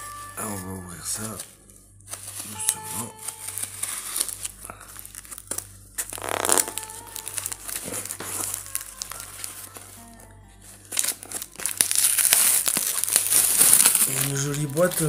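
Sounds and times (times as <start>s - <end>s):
paper rustling: 1.2s - 15.0s
tape and paper crinkling and tearing: 1.2s - 15.0s.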